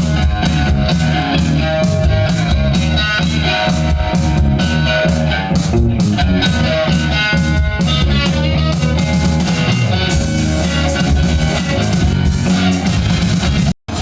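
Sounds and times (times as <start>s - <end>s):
drum kit: 0.0s - 14.0s
guitars: 0.0s - 14.0s.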